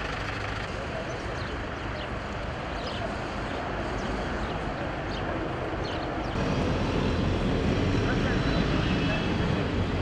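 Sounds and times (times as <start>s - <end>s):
diesel machine engines droning: 0.0s - 10.0s.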